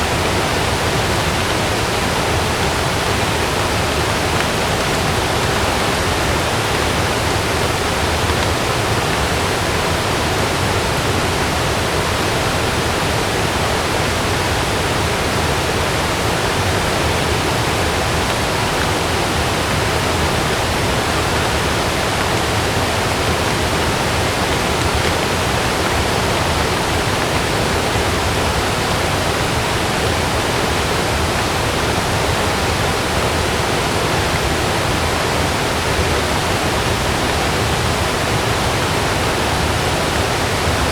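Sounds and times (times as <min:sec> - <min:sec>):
heavy rain on a tent: 0:00.0 - 0:40.9.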